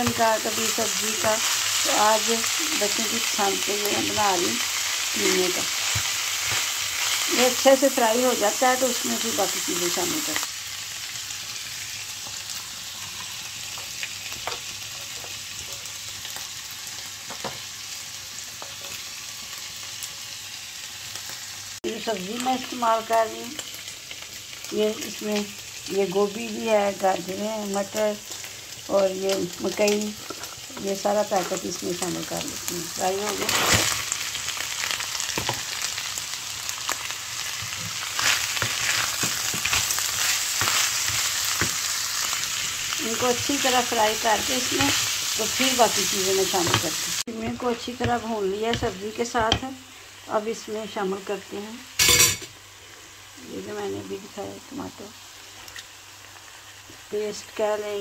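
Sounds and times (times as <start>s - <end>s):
meat and onion sizzling in a pan: 0.0s - 58.0s.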